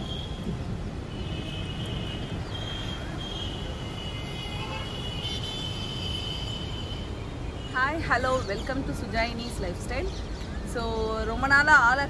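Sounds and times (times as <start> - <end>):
distant city traffic: 0.0 - 12.0
wind rumble: 0.0 - 12.0.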